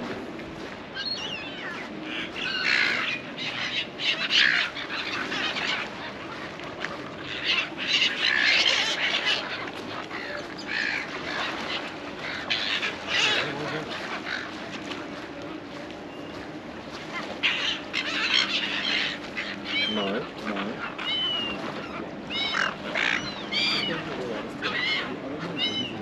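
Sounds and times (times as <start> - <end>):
gulls squawking: 0.9 - 15.2, 17.0 - 26.0.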